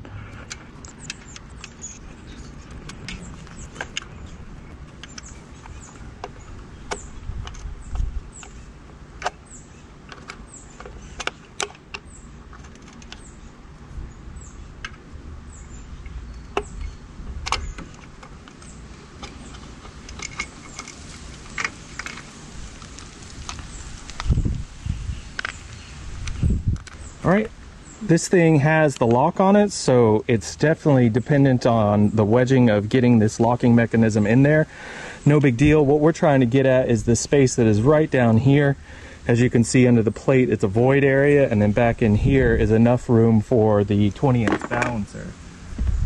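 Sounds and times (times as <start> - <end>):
hand-handling rumble: 0.0 - 46.0.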